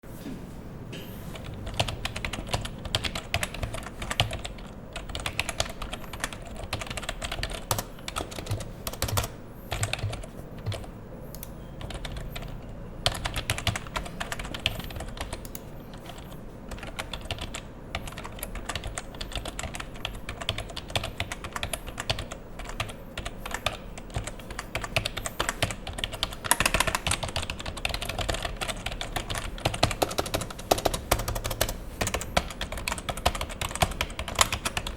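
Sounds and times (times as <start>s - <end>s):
typing on keyboard: 1.3s - 34.9s.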